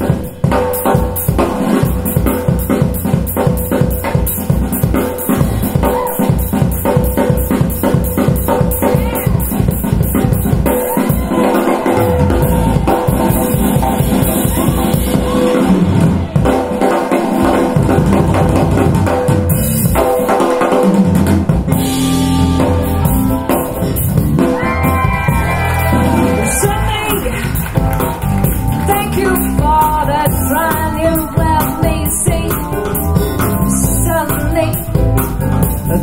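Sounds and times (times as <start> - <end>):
rock music with drums bass guitar: 0.0 - 36.0.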